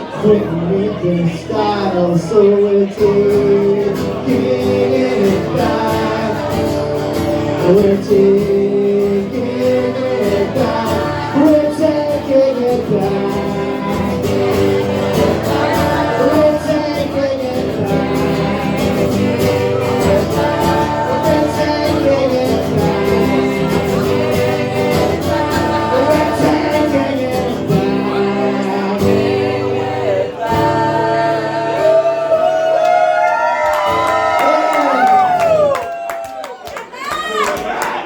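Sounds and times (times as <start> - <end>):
strummed acoustic guitar: 0.0 - 32.4
person singing wordless melody: 0.0 - 32.8.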